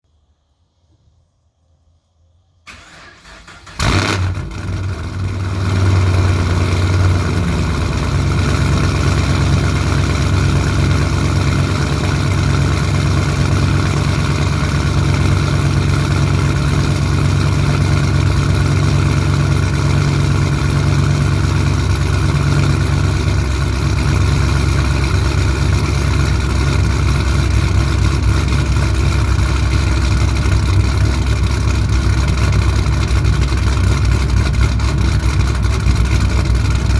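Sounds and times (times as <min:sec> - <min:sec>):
loud car engine idling: 0:02.7 - 0:36.9.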